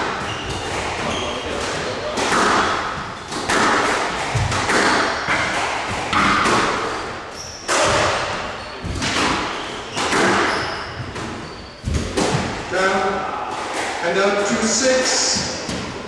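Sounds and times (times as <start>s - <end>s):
squash ball struck by rackets: 0.0s - 14.0s
ball smacking court walls: 0.0s - 16.0s.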